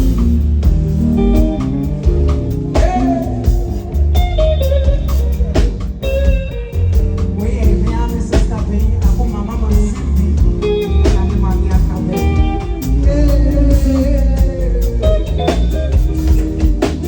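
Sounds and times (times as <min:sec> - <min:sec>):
heavy bass beat: 0:00.0 - 0:17.0
plucked guitar melody: 0:00.0 - 0:17.0.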